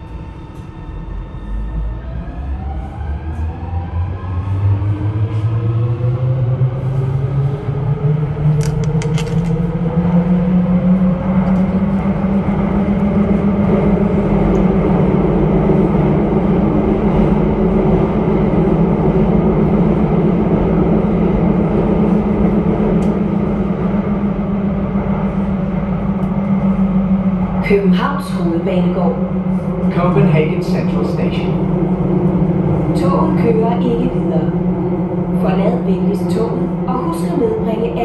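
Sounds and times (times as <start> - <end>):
wheels rumbling on rail: 0.0 - 38.0
train motor hum: 2.1 - 38.0.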